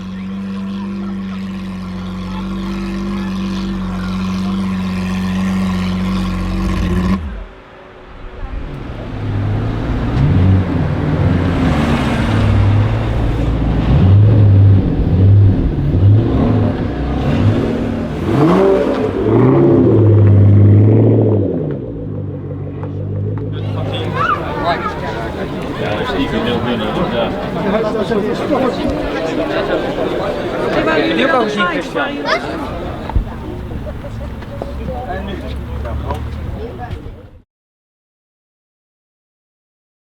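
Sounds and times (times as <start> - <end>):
sports car engine revving: 0.0 - 7.7, 8.6 - 37.0
steady engine drone: 0.0 - 37.2.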